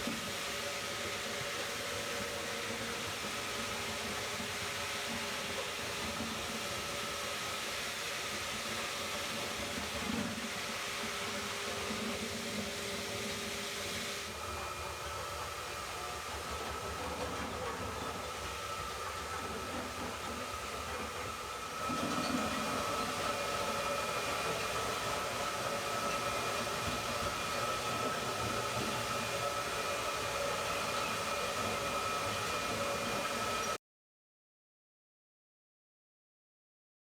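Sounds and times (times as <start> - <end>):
floor grinder hissing: 0.0 - 33.8.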